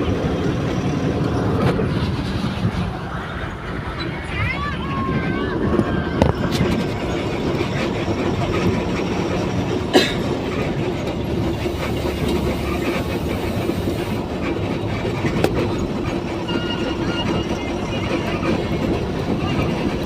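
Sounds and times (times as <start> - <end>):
heavy vehicle rumble: 0.0 - 20.0.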